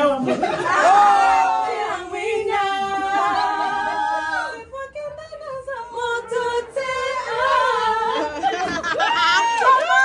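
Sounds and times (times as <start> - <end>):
women singing: 0.0 - 10.0.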